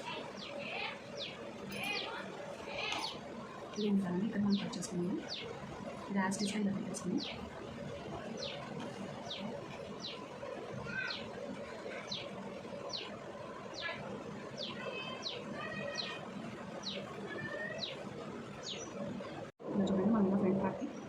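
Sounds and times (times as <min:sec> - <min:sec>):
bird chirping: 0:00.0 - 0:19.1.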